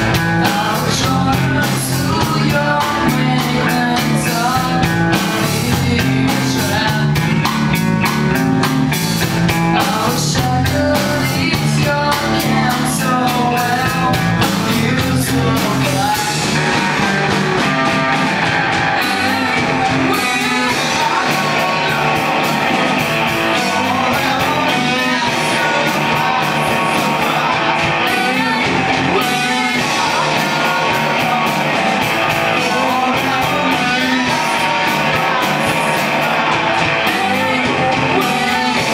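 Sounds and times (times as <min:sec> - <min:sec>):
person singing: 0:00.0 - 0:08.2, 0:09.0 - 0:38.9
drum kit: 0:00.0 - 0:38.9
guitar: 0:00.0 - 0:38.9
rock band playing: 0:00.0 - 0:38.9.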